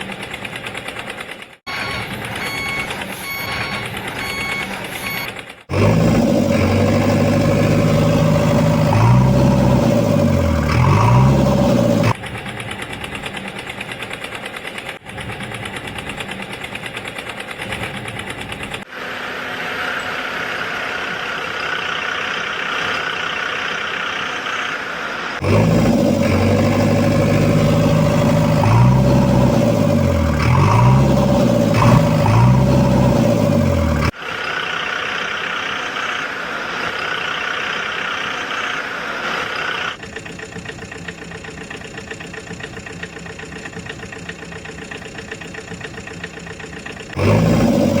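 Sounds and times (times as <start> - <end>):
engine revving: 4.2 - 48.0.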